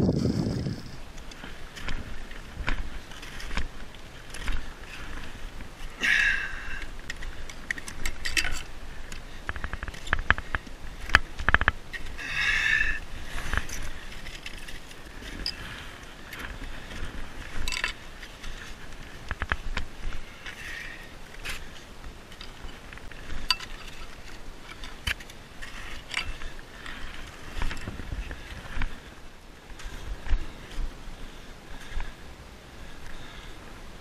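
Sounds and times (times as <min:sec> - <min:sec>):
metal climbing gear clinking: 0:01.1 - 0:29.0.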